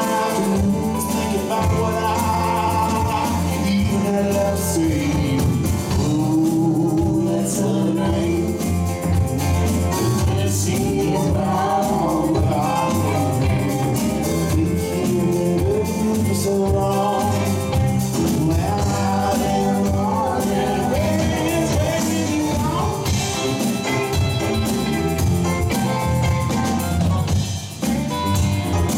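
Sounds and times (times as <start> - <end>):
electric bass: 0.0 - 28.9
electric guitar: 0.0 - 28.9
live country-rock band: 0.0 - 28.9.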